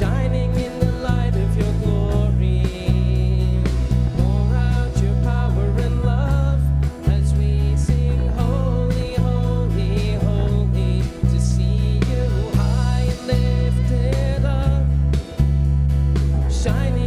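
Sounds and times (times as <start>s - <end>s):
person singing: 0.0s - 15.4s, 16.4s - 17.0s
worship music: 0.0s - 17.0s.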